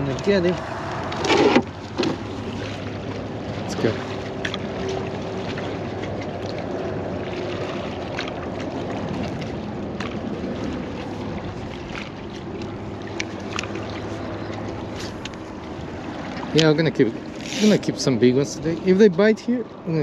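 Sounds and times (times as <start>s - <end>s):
water noise: 0.0s - 20.0s
wind: 0.0s - 20.0s.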